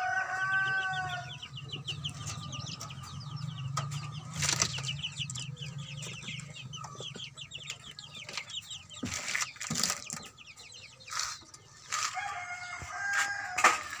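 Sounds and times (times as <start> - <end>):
chicken calling: 0.0 - 14.0
chicks peeping: 0.0 - 14.0.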